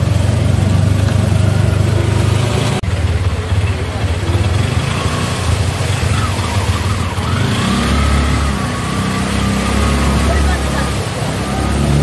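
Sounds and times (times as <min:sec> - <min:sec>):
auto-rickshaw engine drone: 0:00.0 - 0:12.0.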